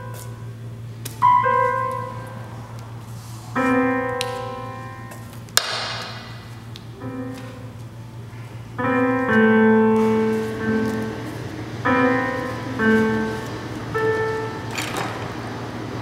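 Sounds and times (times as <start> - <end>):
low steady hum: 0.0 - 16.0
synthesizer keyboard chords: 0.0 - 16.0.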